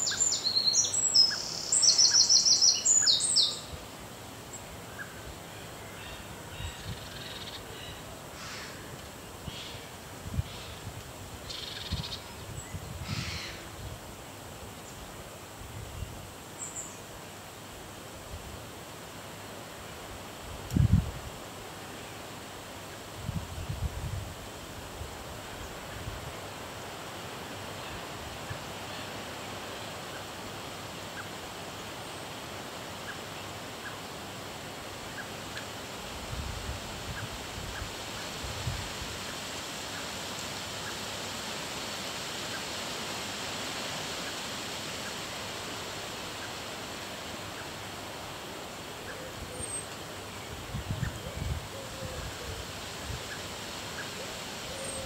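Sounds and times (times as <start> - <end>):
steady outdoor hiss: 0.0 - 55.0.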